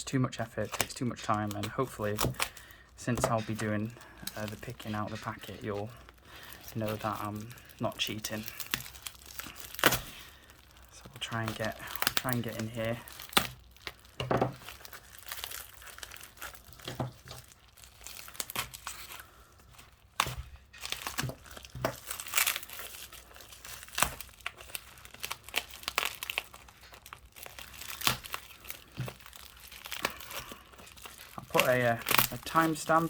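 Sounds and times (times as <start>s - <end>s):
packaging tearing and crinkling: 0.4s - 33.0s.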